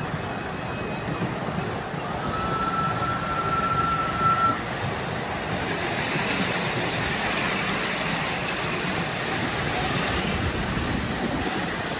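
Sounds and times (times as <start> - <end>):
miniature train rumbling on track: 0.0 - 11.9.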